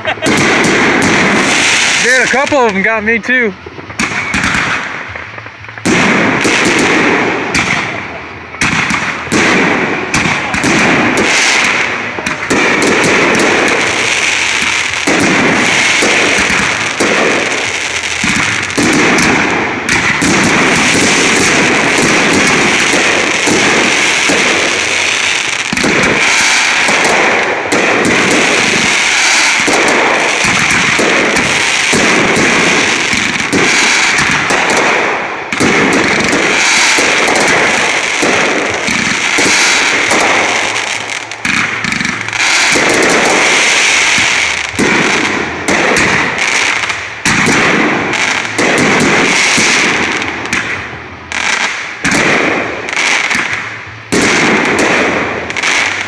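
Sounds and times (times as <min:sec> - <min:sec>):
fireworks crackling bangs: 0:00.0 - 0:56.0.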